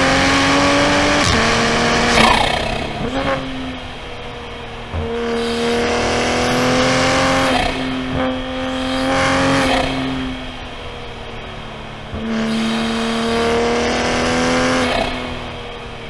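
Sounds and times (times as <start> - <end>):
car engine under throttle: 0.0 - 16.0.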